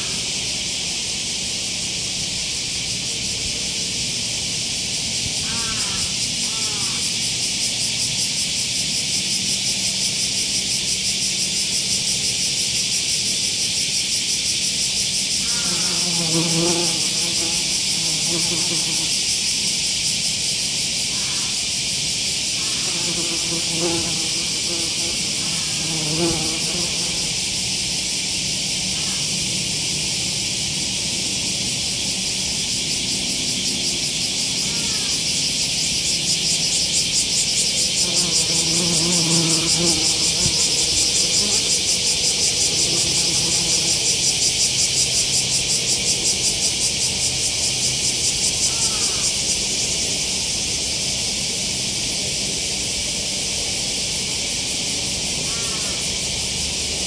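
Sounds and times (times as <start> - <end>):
cicadas singing: 0.0 - 57.0
wasp wing buzz: 0.0 - 57.0.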